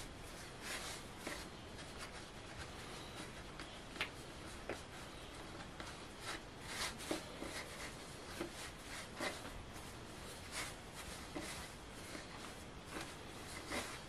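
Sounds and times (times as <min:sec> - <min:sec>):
brushing: 0:00.0 - 0:14.0
hands rubbing bread dough: 0:00.0 - 0:14.0.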